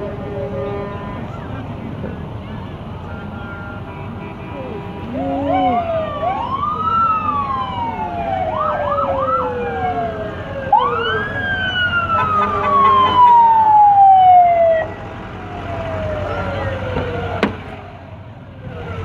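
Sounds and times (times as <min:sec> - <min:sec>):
fire truck sirens wailing: 0:00.0 - 0:19.0.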